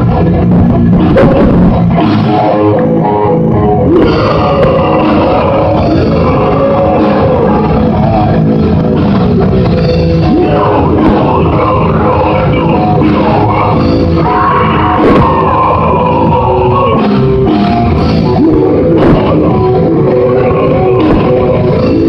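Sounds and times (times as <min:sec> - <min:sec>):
live heavy metal band: 0:00.0 - 0:22.0.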